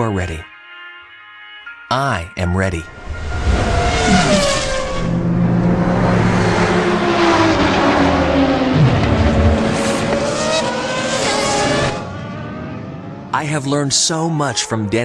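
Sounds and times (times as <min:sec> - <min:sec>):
race car engines passing: 0:02.9 - 0:15.0.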